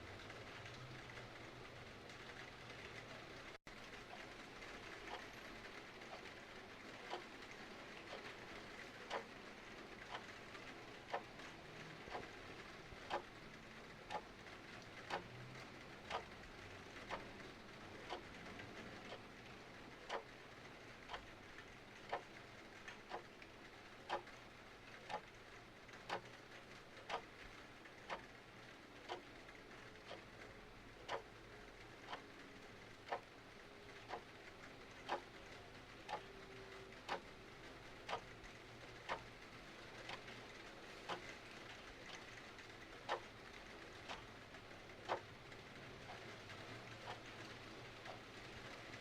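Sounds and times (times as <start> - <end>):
clock ticking: 4.1 - 49.0.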